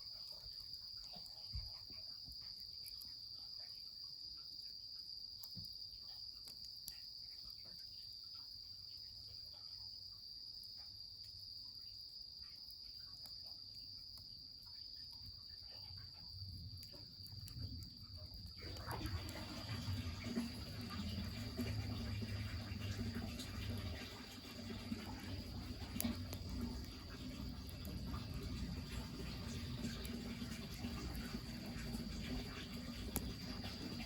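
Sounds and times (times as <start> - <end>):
faint wood fire crackles: 0.0 - 34.0
insects chirring: 0.0 - 34.0.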